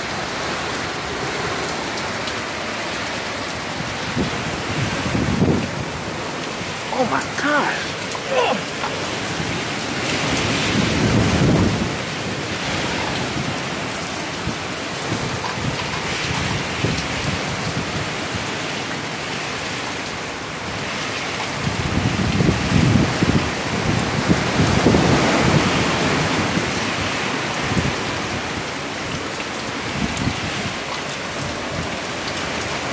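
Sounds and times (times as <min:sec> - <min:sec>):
heavy rain pouring: 0:00.0 - 0:32.9
strong wind gusts: 0:03.3 - 0:19.6, 0:20.5 - 0:32.1.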